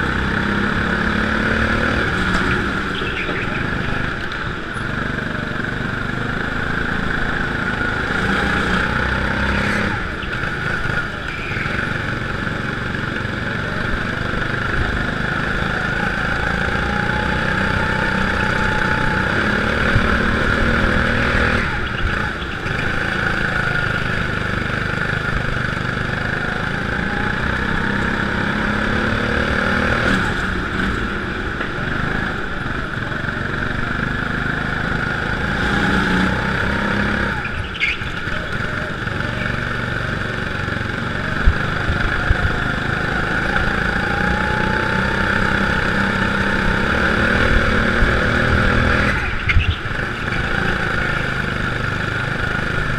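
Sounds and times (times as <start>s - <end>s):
go-kart engine running flat out: 0.0s - 52.9s.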